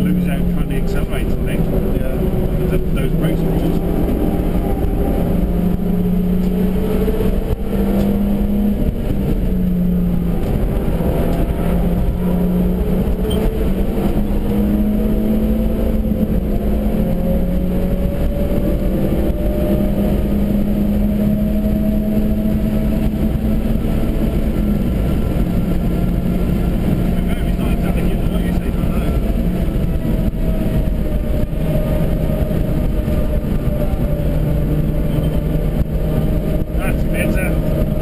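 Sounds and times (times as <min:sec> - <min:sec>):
car engine accelerating: 0:00.0 - 0:38.0
road and wind noise: 0:00.0 - 0:38.0.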